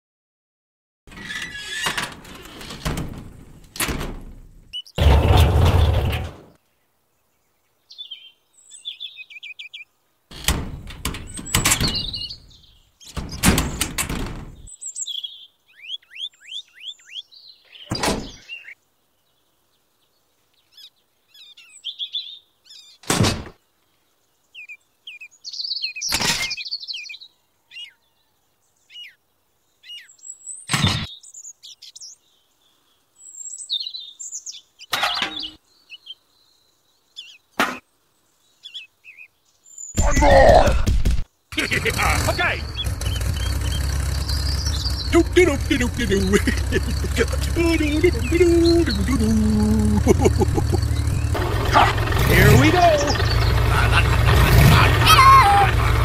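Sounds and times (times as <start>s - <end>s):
small birds chirping: 1.2s - 56.0s.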